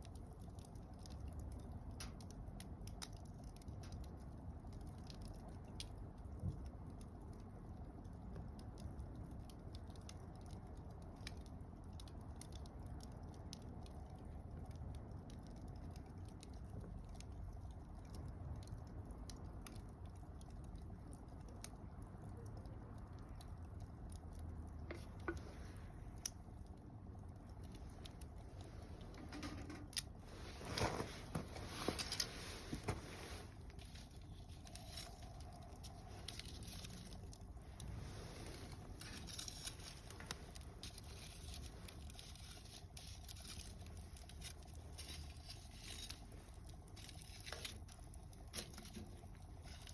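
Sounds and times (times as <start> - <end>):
campfire crackling: 0.0 - 49.9.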